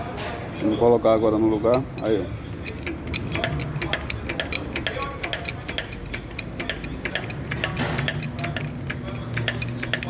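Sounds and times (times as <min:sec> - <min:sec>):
metallic clicks and taps: 0:01.6 - 0:10.0.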